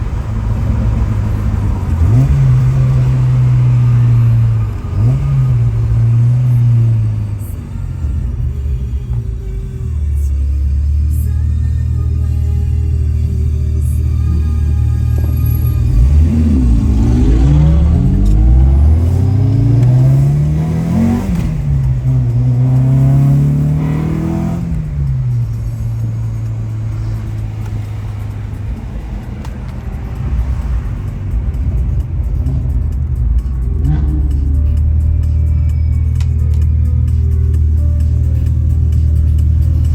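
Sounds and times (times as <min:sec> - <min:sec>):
car engine accelerating: 0:00.0 - 0:39.9
low music bed: 0:00.0 - 0:39.9.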